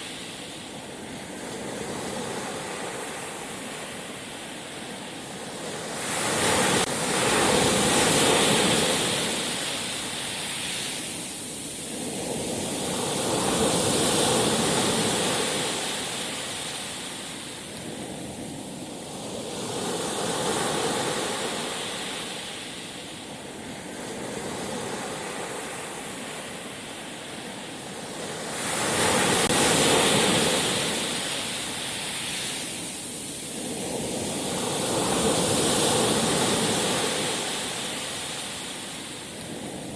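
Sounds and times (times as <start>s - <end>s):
waves washing on shore: 0.0s - 39.9s.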